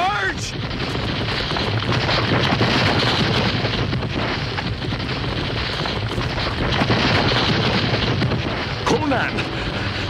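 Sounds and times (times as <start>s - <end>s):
cartoon hooves stampeding: 0.0s - 9.2s.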